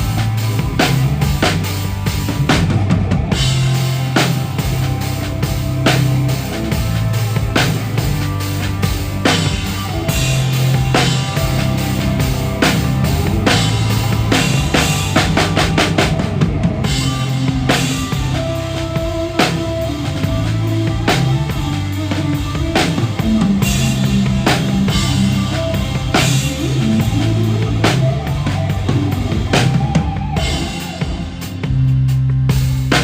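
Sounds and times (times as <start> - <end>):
bass guitar notes: 0.0 - 33.0
drum kit: 0.0 - 33.0
live rock band: 0.0 - 33.0.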